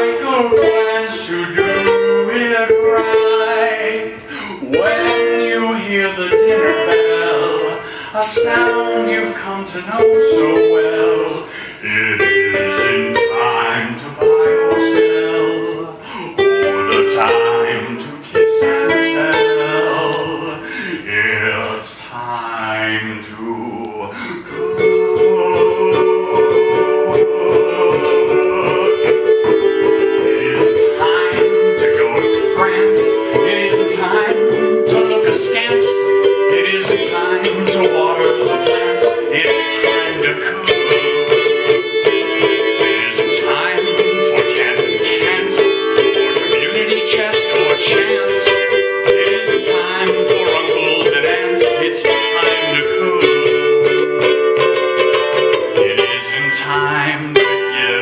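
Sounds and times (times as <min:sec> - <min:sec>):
ukulele plucked and strummed: 0:00.0 - 0:20.6, 0:23.5 - 0:58.0.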